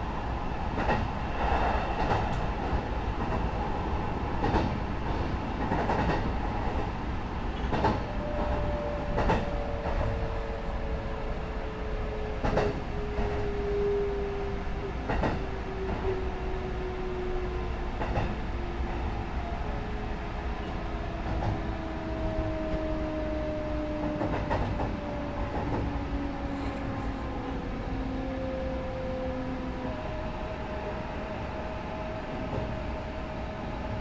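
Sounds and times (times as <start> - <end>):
train interior rumble: 0.0 - 34.0.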